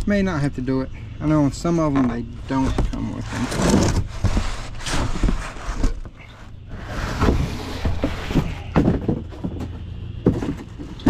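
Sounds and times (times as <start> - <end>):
low steady rumble: 0.0 - 11.0
cardboard rustling and scraping: 1.9 - 11.0.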